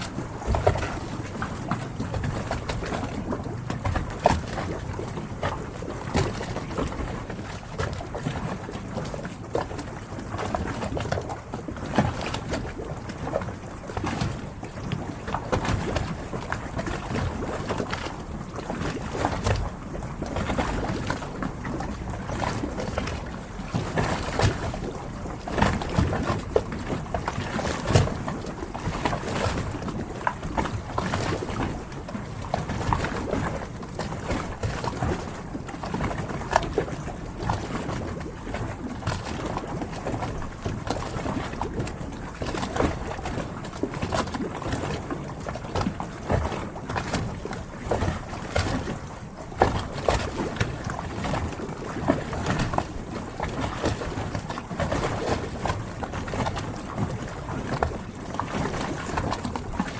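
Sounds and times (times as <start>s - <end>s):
small knocks and splashes: 0.0s - 59.9s
water lapping against hulls: 0.0s - 59.9s.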